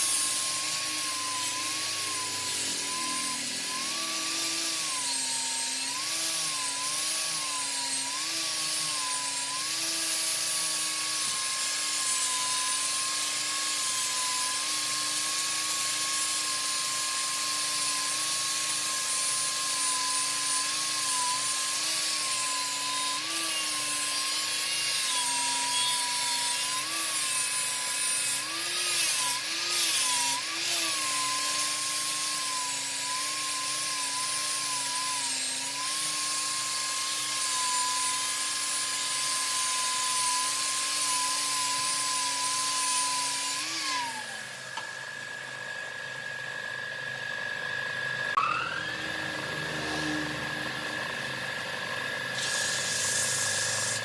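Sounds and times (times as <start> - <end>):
lathe motor whine: 0.0 - 54.0
tool cutting wood hiss: 0.0 - 54.0.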